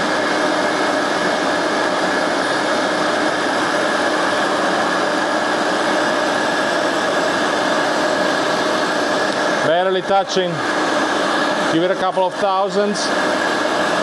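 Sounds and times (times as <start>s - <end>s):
grinder spindle running: 0.0s - 14.0s
vacuum cleaner: 0.0s - 14.0s.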